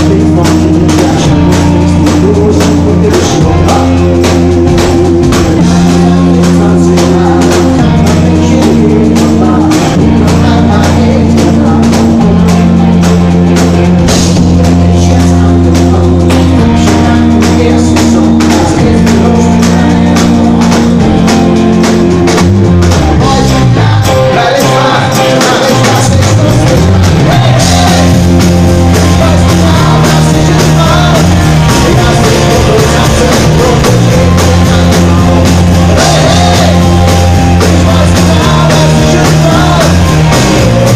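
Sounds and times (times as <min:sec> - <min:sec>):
acoustic guitar: 0:00.0 - 0:40.9
live pop-rock band: 0:00.0 - 0:40.9.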